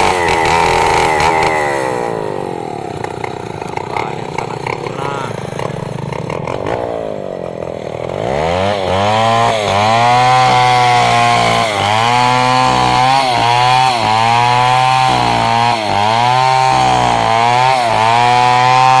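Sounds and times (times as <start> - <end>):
chainsaw cutting timber: 0.0 - 19.0.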